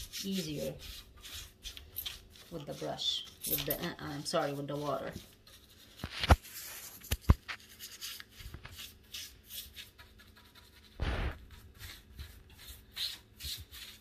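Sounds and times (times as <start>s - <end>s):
paintbrush swishing on wood: 0.0s - 14.0s.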